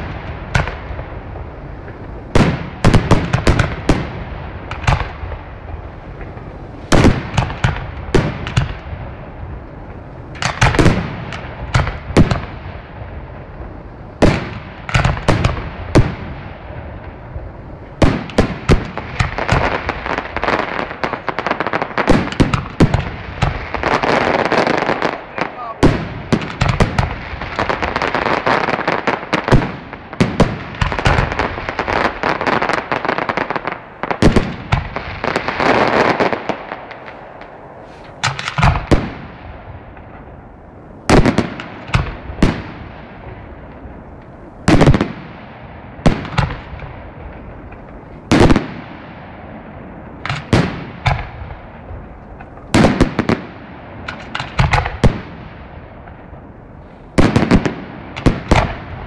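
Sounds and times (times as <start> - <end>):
firework booms with rumble: 0.0 - 56.5, 57.1 - 59.0
fireworks crackling and banging: 0.0 - 59.0.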